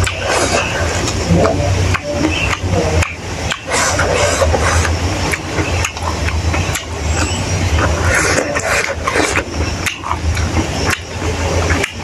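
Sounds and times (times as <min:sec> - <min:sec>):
fingers mixing rice on metal plate: 0:00.0 - 0:12.0
steady low hum: 0:00.0 - 0:12.0
wet chewing and mouth smacks: 0:00.0 - 0:12.0.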